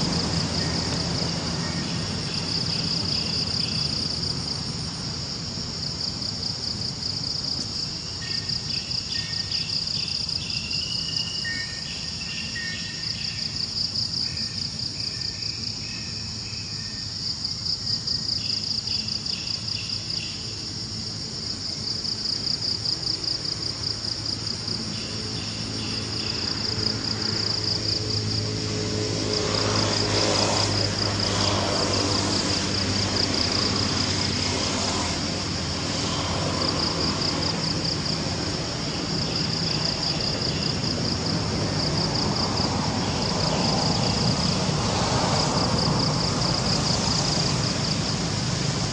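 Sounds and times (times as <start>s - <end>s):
rushing noise with low hum: 0.0s - 10.6s, 13.1s - 48.9s
insects pulsing chorus: 0.0s - 48.9s.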